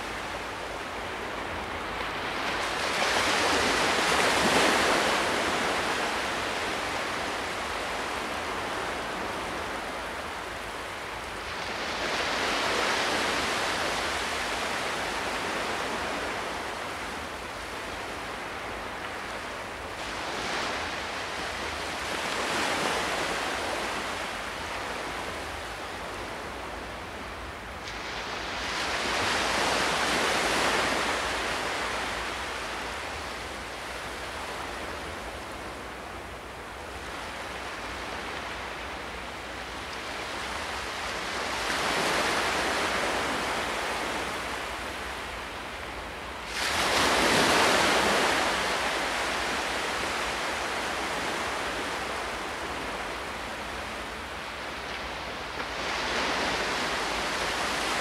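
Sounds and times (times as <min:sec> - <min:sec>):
sea waves breaking on beach: 0:00.0 - 0:58.0.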